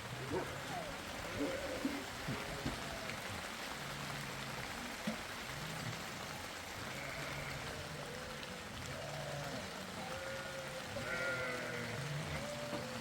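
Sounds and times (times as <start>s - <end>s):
rain hissing: 0.0s - 13.0s
running water: 0.0s - 13.0s.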